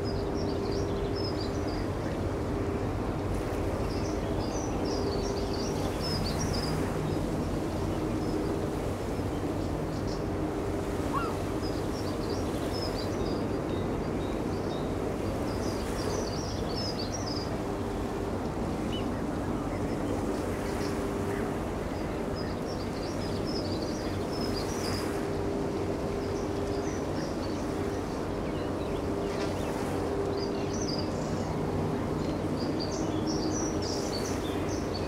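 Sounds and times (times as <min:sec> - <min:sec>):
wind: 0:00.0 - 0:35.0.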